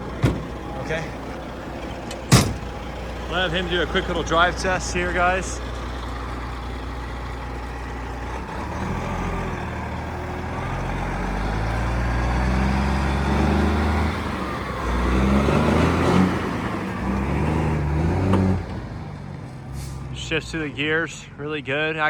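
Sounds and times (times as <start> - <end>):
truck engine accelerating: 0.0 - 21.8.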